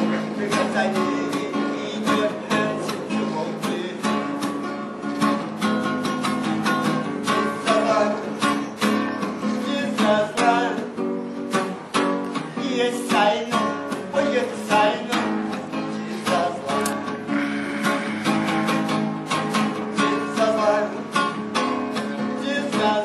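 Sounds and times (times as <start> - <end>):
classical guitar strummed: 0.0 - 23.0.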